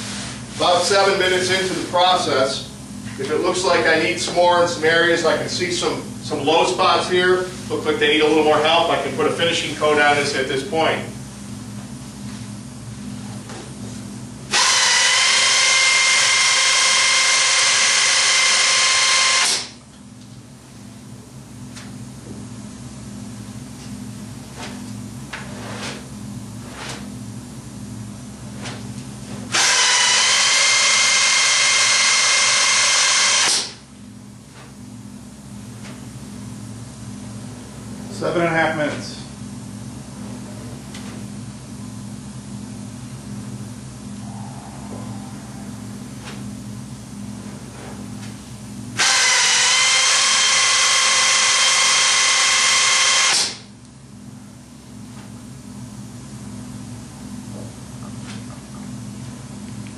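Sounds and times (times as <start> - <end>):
dispensing gun motor whine: 0.0 - 59.9.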